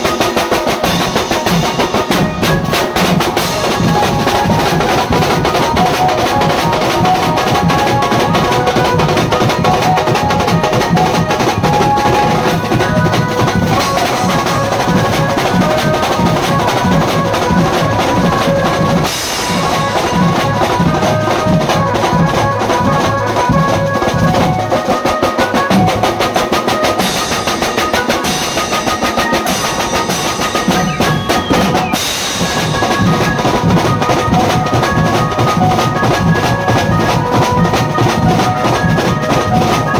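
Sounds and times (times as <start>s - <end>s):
band music with heavy drumming: 0.0s - 39.9s.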